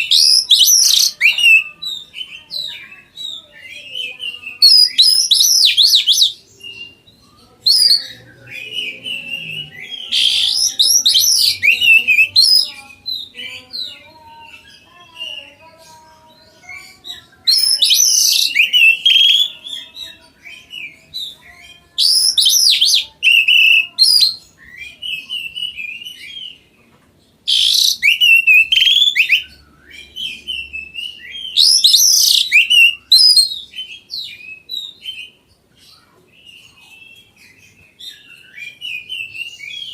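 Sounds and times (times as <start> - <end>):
soft bird chirps and calls: 0.0 - 39.9
songbird singing: 0.0 - 39.9.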